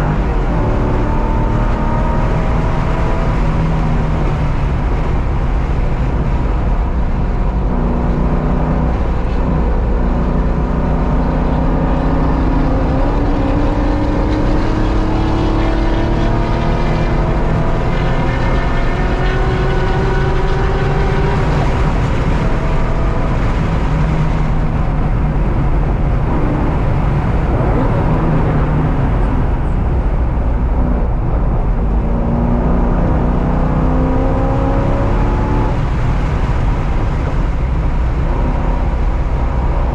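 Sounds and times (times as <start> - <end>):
car engine revving hard: 0.0 - 7.0, 7.6 - 39.9
road and tyre noise: 0.0 - 39.9.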